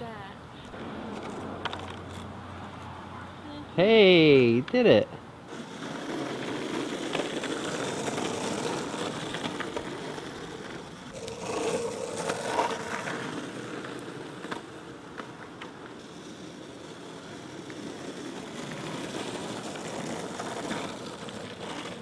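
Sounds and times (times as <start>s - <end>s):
longboard wheels rolling on asphalt: 0.0s - 22.0s.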